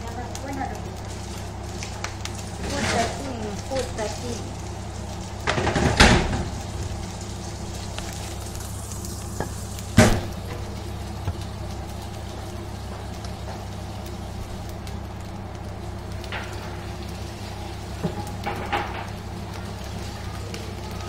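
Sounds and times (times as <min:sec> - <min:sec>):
low hum: 0:00.0 - 0:21.0
rice sizzling in a wok: 0:00.0 - 0:21.0.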